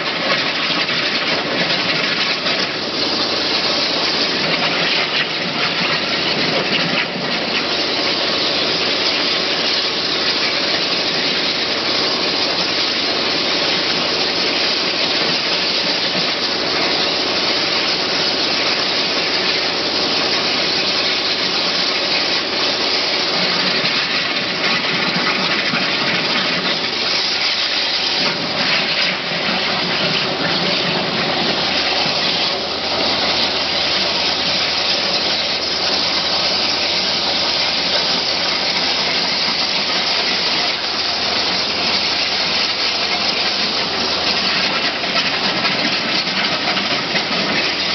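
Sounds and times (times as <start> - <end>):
waterjet cutter hissing: 0.0 - 47.9.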